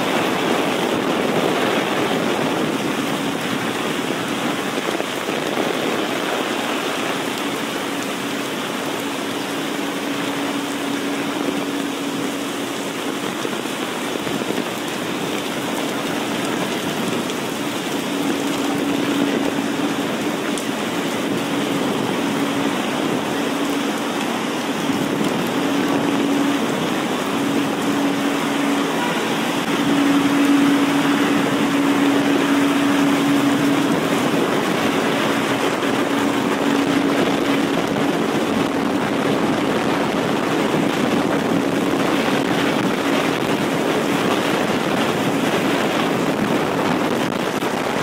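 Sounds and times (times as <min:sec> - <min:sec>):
heavy rain on street: 0:00.0 - 0:48.0.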